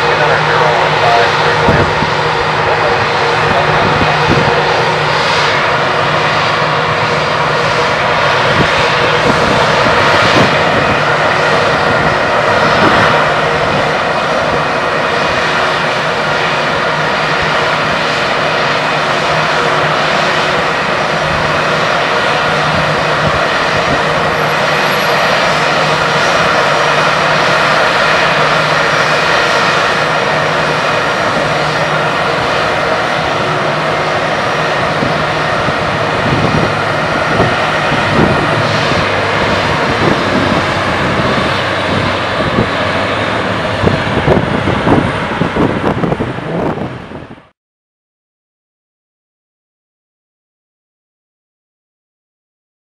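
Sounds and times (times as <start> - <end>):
jet engines idling: 0.0 - 47.5.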